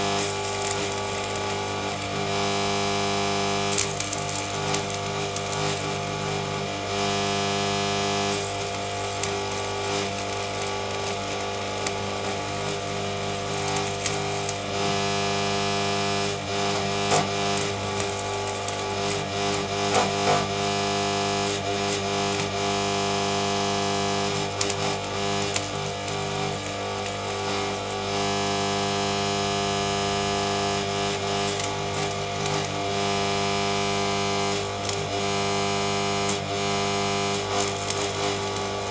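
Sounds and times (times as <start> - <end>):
welding arc crackling and hissing: 0.0 - 38.9.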